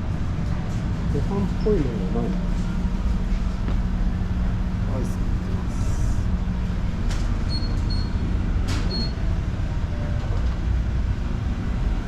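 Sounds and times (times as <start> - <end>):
ship machinery drone: 0.0 - 12.0.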